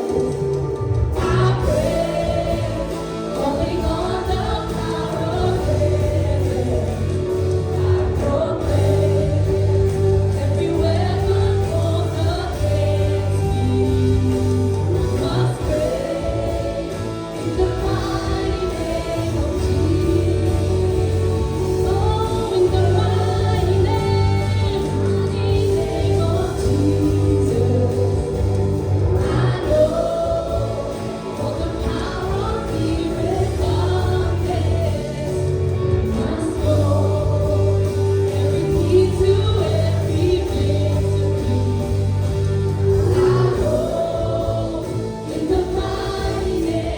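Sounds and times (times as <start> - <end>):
worship band and singers: 0.0 - 46.9.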